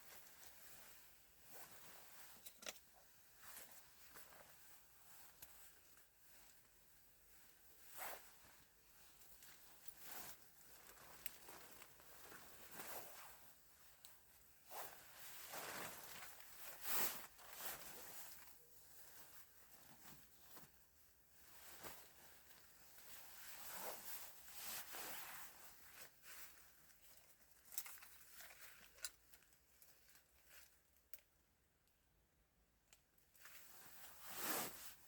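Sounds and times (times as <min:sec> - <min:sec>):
faint rustling and crinkling: 0:00.0 - 0:32.0, 0:32.9 - 0:35.0.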